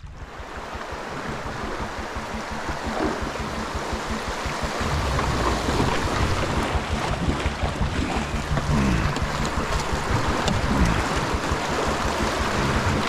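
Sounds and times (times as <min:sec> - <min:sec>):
creek water rushing: 0:00.0 - 0:13.0
wind buffeting microphone: 0:00.0 - 0:13.0.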